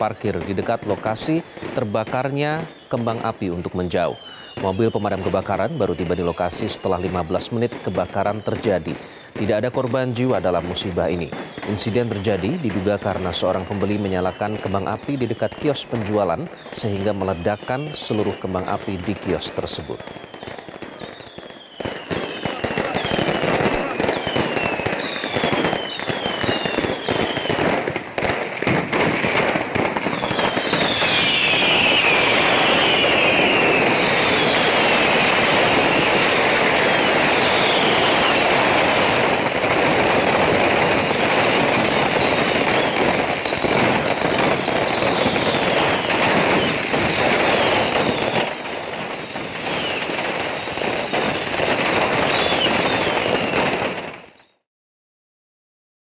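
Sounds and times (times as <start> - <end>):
falling firework whistles: 0.0 - 54.6
fireworks crackling and popping: 0.0 - 54.6.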